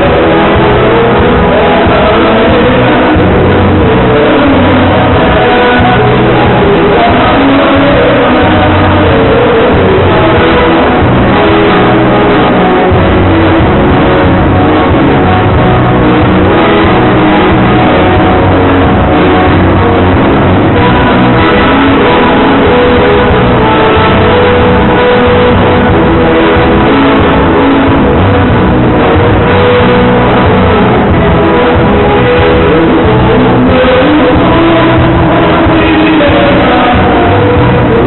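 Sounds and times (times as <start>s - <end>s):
dance band playing: 0.0s - 38.0s
plucked guitar: 0.0s - 38.0s.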